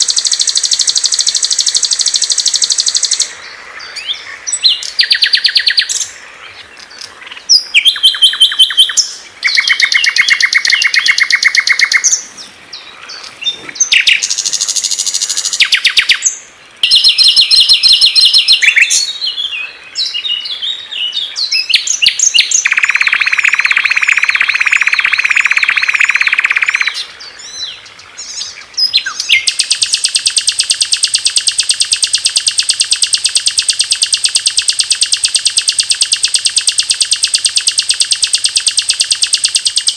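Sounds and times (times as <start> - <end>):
songbird trills and chirps: 0.0 - 39.9.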